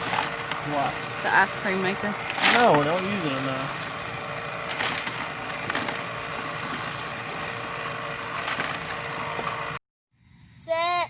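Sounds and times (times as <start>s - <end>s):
ice cream maker humming: 0.0s - 9.8s.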